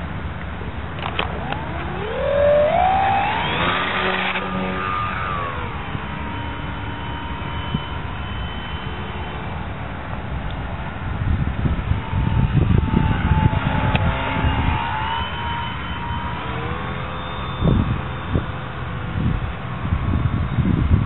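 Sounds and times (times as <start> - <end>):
model plane motor whining: 0.8 - 21.0.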